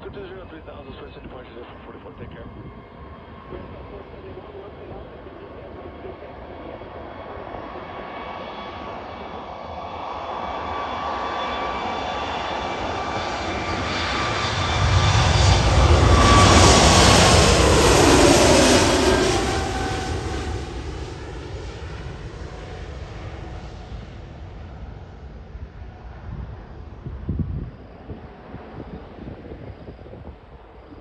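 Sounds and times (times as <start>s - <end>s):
jet engines passing by: 0.0s - 31.0s.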